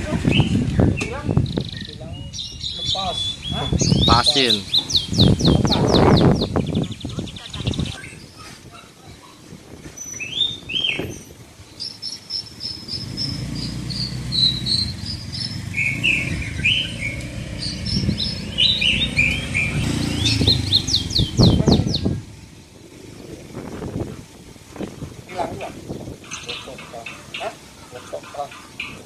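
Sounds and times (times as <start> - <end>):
caged birds chirping: 0.0 - 29.0.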